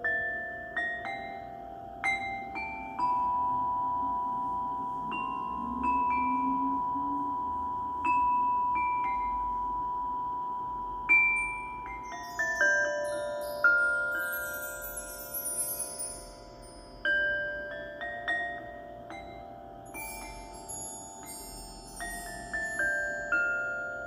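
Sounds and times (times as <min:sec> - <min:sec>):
mallet-struck percussion notes ringing: 0:00.0 - 0:24.0.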